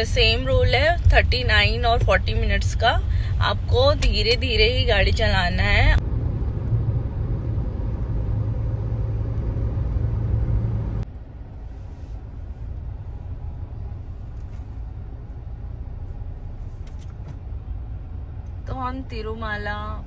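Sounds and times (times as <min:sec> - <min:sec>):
car cabin road and engine rumble: 0:00.0 - 0:20.0.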